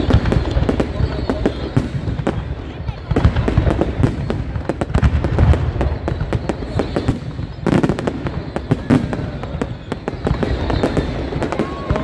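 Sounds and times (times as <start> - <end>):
fireworks bangs and crackles: 0.0 - 12.0
loud firework burst: 0.0 - 12.0.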